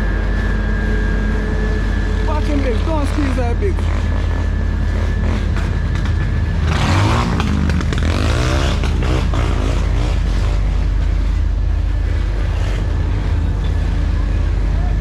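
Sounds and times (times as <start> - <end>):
low machinery engine drone: 0.0 - 15.0.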